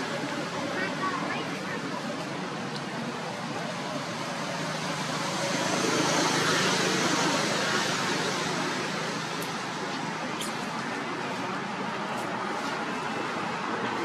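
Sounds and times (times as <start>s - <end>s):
vehicle passing on road: 2.4s - 14.0s.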